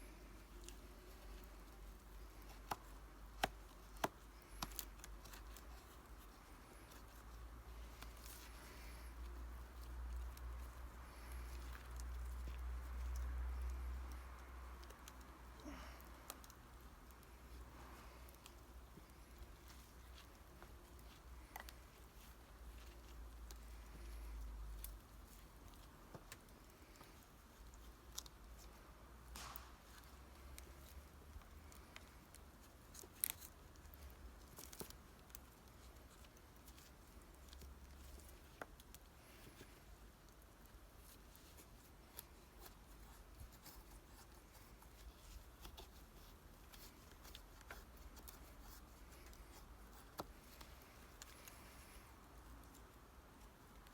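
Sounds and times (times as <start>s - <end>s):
knife shaving wood: 0.0s - 53.9s
low steady hum: 0.0s - 53.9s
wood fire crackling: 0.0s - 53.9s.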